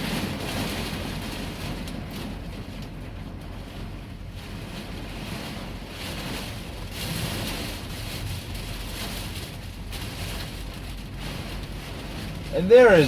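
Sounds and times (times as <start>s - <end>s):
heavy rain beating on truck: 0.0s - 13.0s.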